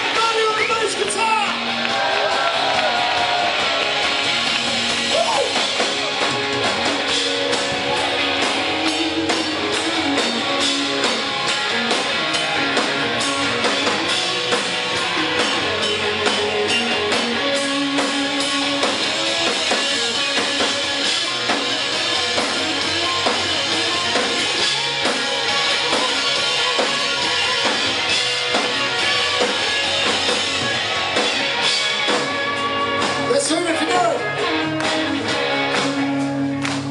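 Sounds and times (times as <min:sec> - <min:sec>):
drum kit beat: 0:00.0 - 0:36.9
electric guitars: 0:00.0 - 0:36.9.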